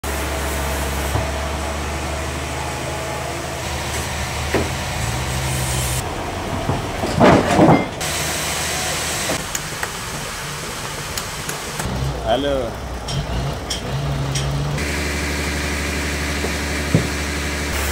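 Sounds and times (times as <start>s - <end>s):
loud rough noise: 0.0s - 17.9s
sawmill machinery humming: 0.0s - 17.9s.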